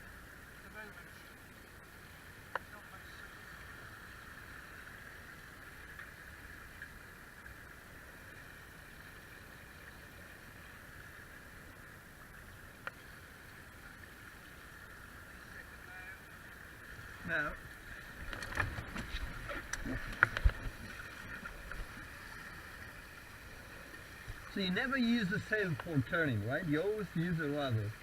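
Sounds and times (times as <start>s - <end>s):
water rushing: 0.0s - 28.0s
wind: 0.0s - 28.0s.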